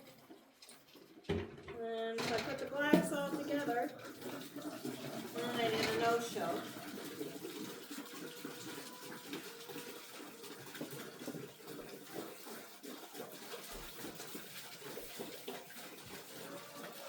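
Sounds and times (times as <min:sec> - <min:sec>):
water pouring into a bucket: 0:00.0 - 0:17.0.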